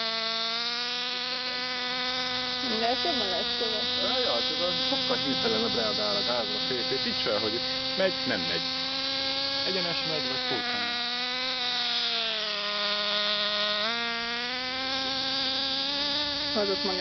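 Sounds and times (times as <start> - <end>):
rc car engine buzzing: 0.0 - 17.0.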